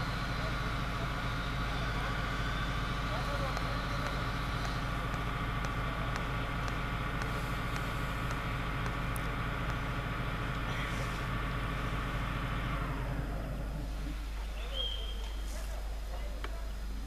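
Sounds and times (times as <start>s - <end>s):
electric locomotive drone: 0.0s - 14.5s.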